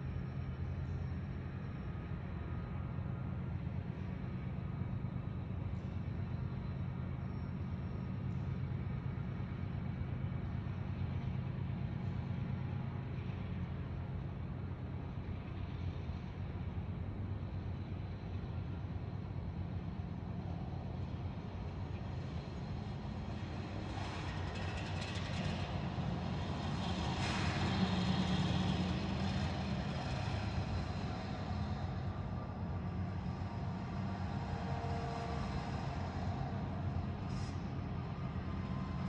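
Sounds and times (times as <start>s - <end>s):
low engine rumble and hum: 0.0s - 39.0s.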